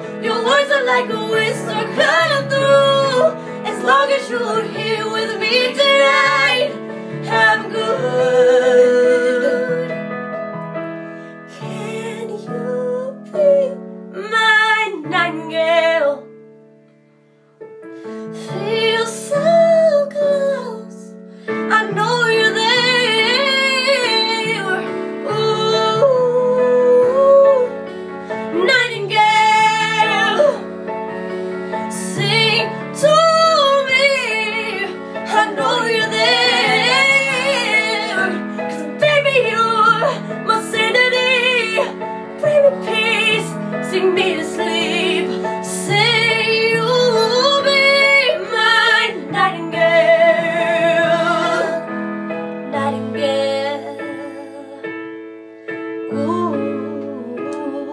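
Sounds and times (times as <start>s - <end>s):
soft piano accompaniment: 0.0s - 57.9s.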